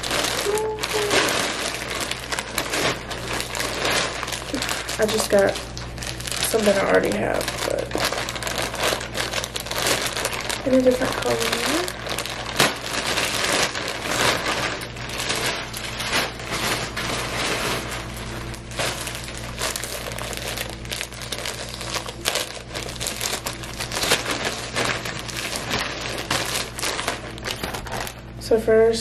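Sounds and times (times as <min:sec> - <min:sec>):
plastic mailer ripping open: 0:00.0 - 0:28.3
plastic packaging crinkling: 0:00.0 - 0:28.4.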